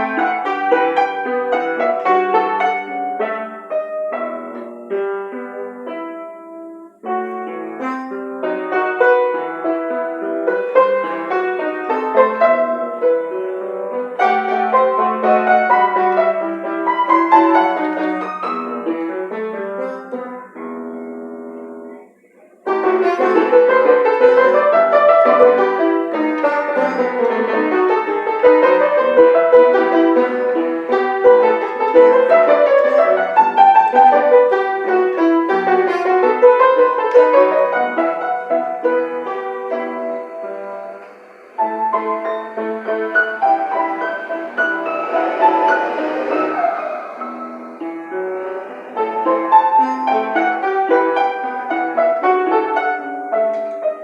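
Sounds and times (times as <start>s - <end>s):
piano playing: 0.0s - 54.0s.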